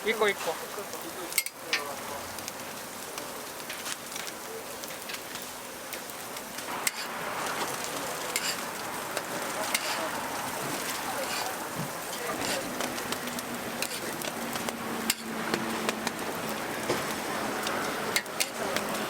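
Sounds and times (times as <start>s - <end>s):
oil sizzling on a griddle: 0.0s - 19.0s.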